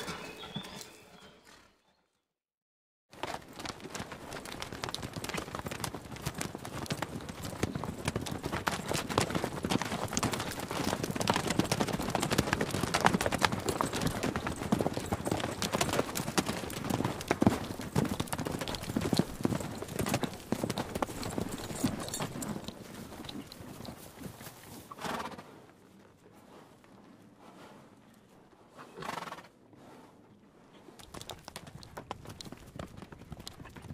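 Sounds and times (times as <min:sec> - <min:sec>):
horse hooves clopping: 0:03.2 - 0:29.5, 0:30.9 - 0:33.9.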